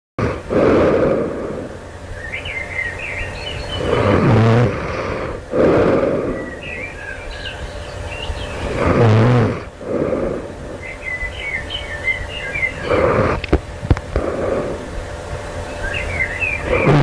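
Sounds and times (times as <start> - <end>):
faint birds chirping: 0.2 - 17.0
low buzzing snore: 0.2 - 17.0
noisy sleeping breaths: 0.2 - 17.0.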